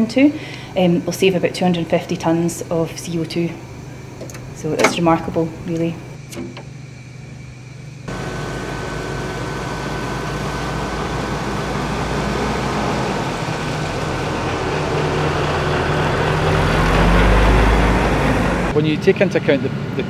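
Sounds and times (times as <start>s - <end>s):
truck engine running: 0.9s - 20.0s.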